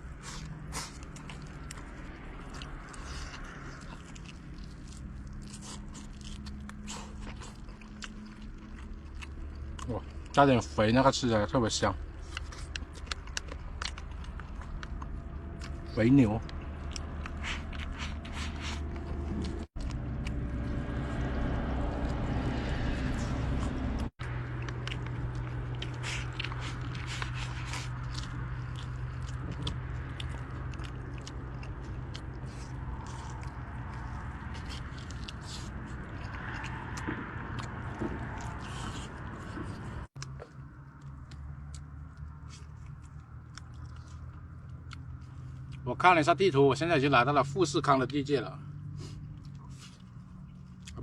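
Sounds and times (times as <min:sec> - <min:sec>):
person chewing meat: 0:00.0 - 0:11.1, 0:11.8 - 0:45.8, 0:48.8 - 0:51.0
steady low hum: 0:00.0 - 0:45.9.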